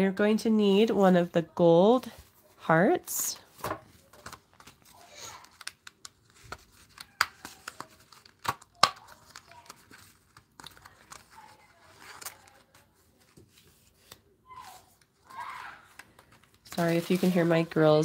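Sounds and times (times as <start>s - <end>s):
paper sheet rustling: 3.4s - 18.0s.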